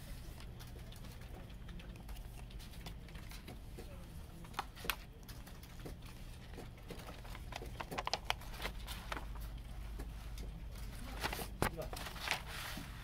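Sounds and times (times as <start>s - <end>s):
low steady hum: 0.0s - 13.0s
paper booklet rustling: 2.6s - 13.0s.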